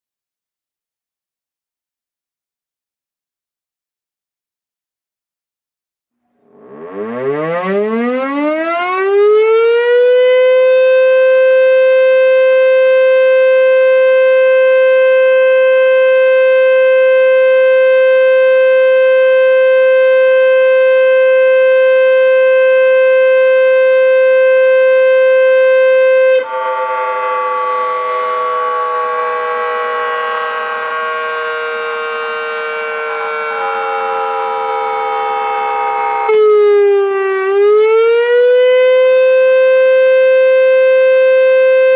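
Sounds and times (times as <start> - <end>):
warning siren winding: 6.5 - 41.9.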